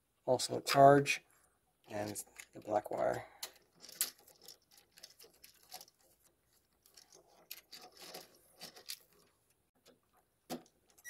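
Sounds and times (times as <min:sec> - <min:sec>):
small clicks and rustles: 0:01.8 - 0:11.0.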